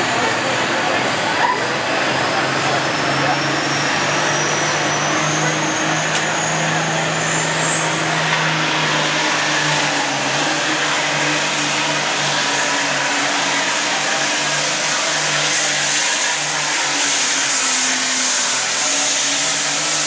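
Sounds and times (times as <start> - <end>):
high whine rising in pitch: 0.0 - 20.0
tractor engine running at full power: 0.0 - 20.0.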